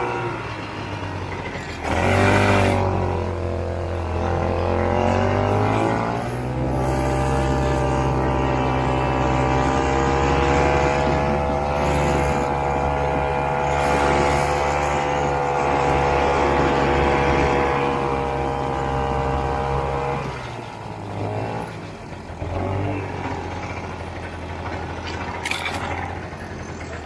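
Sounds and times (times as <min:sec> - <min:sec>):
two-stroke snowmobile engine running: 0:00.0 - 0:27.0.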